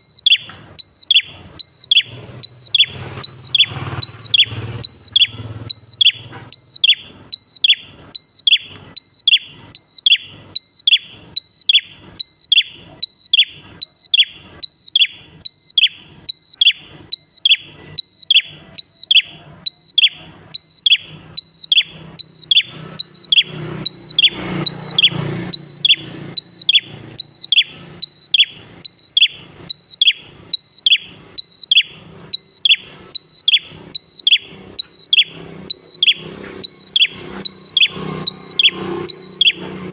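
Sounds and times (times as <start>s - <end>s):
bird calling sharp notes: 0.0s - 39.9s.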